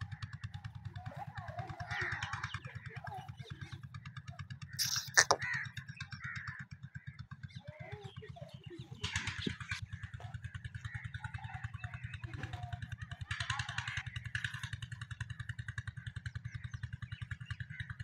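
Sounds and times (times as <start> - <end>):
birds chirping: 0.0 - 18.0
engine idling: 0.0 - 18.0.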